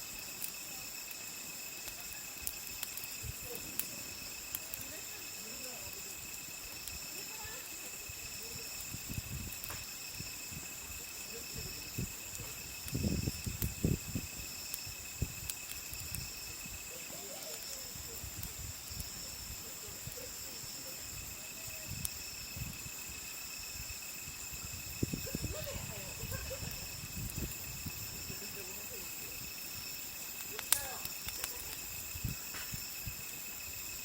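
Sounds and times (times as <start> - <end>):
campfire crackling: 0.0 - 34.0
insects trilling: 0.0 - 34.0.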